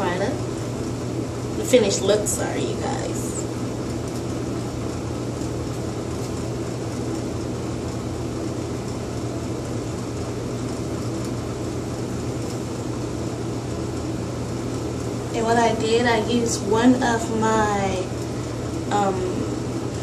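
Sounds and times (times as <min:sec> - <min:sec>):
steady mechanical hum with hiss: 0:00.0 - 0:20.0.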